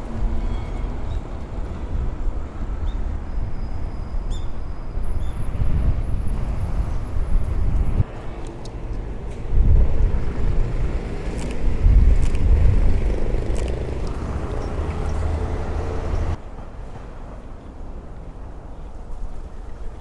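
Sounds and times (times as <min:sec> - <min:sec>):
rumble of passing vehicles: 0:00.0 - 0:20.0.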